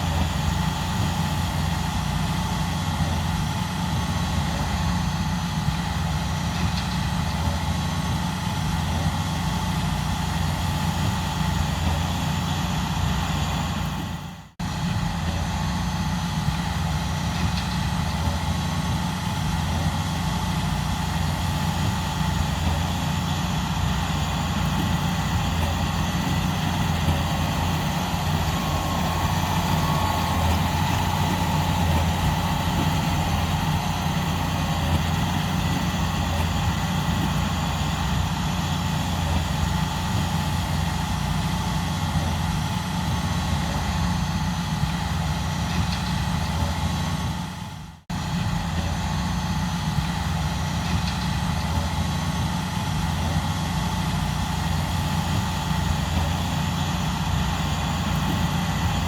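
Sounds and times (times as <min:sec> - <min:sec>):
faint high whine: 0:00.0 - 0:59.0
tractor diesel engine droning: 0:00.0 - 0:59.0.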